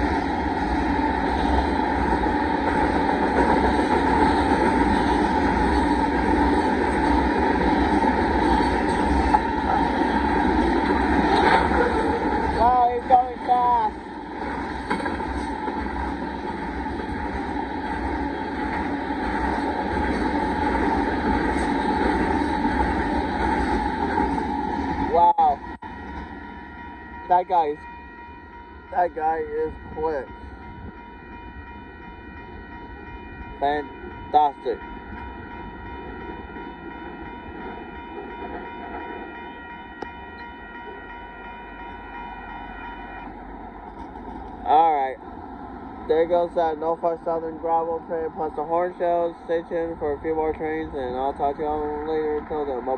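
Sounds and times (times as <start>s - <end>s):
train wheels rumbling on rails: 0.0s - 52.9s
crossing bell ringing tone: 1.0s - 45.2s.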